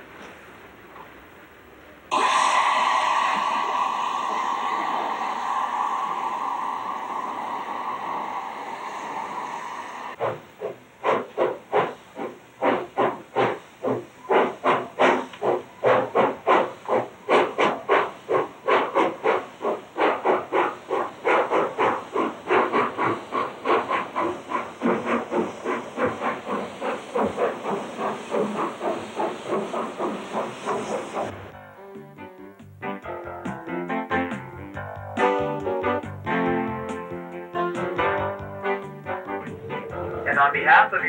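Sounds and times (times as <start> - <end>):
steam hissing from cylinders: 0.0 - 31.6, 37.8 - 41.0
steam locomotive chuffing: 0.0 - 32.0, 33.1 - 41.0.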